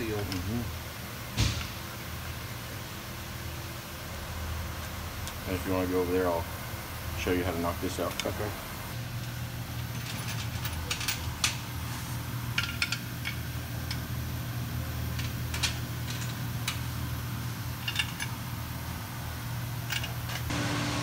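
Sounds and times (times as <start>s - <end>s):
shop ventilation hum: 0.0s - 21.0s.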